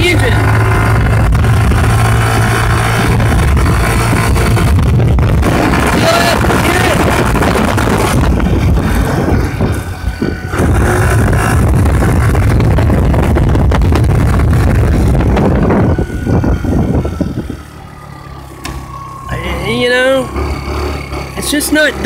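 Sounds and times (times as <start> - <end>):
wind buffeting microphone: 0.0 - 21.4
scooter engine running: 0.0 - 22.0.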